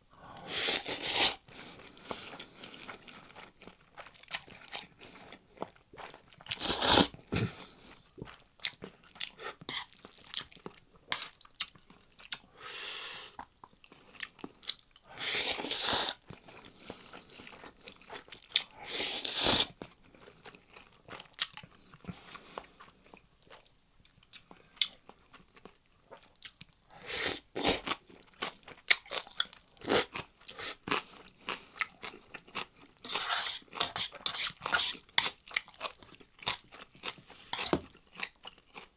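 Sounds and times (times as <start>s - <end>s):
chewing and crunching food: 0.4s - 12.6s, 13.3s - 38.9s.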